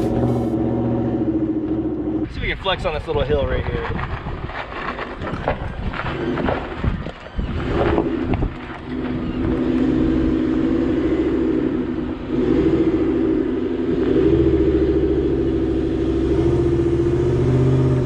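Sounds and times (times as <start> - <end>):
truck engine under load: 0.0 - 2.7, 4.5 - 18.0.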